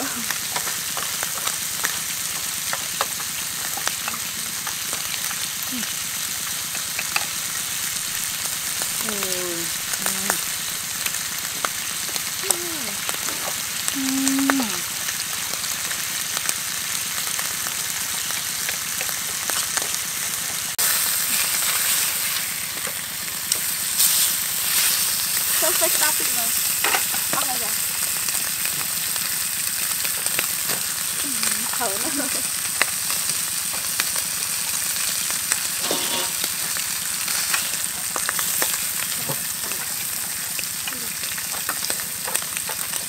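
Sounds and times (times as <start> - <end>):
meat sizzling in a wok: 0.0 - 43.0.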